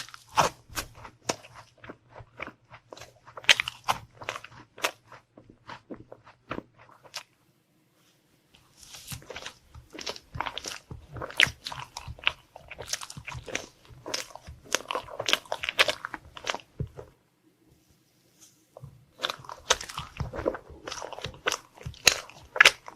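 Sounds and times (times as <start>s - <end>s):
crisp crunching and chewing: 0.0s - 7.3s, 8.8s - 17.2s, 18.8s - 22.9s.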